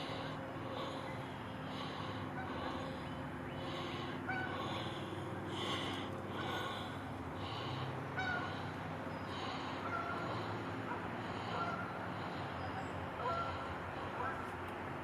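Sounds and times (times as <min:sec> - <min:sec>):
geese honking: 0:01.7 - 0:14.4.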